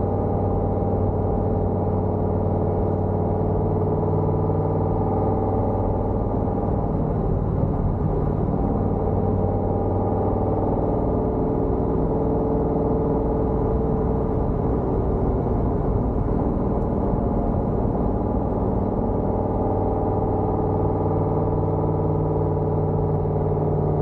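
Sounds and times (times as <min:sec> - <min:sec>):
loud car exhaust running steady: 0:00.0 - 0:24.0.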